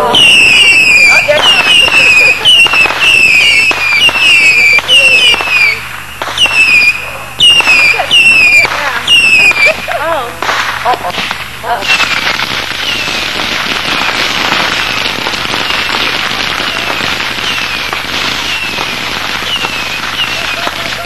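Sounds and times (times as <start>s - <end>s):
falling whistles: 0.0s - 9.9s, 11.8s - 21.0s
fireworks crackling: 0.0s - 21.0s
fireworks popping: 0.0s - 21.0s.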